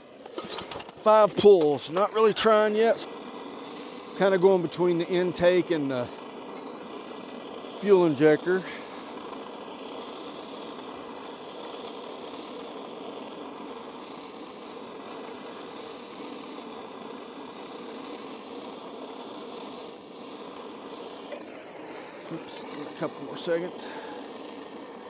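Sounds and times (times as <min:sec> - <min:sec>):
torch hissing: 0:00.0 - 0:25.0.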